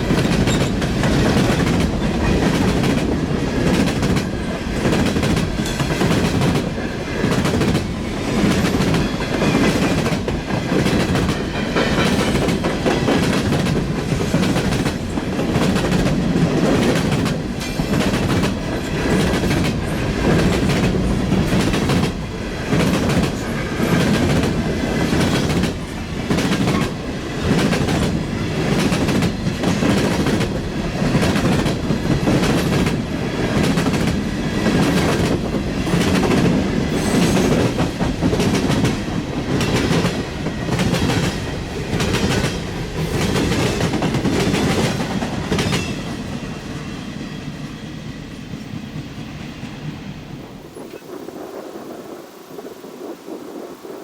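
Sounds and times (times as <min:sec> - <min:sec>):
train cars rolling past: 0:00.0 - 0:54.0.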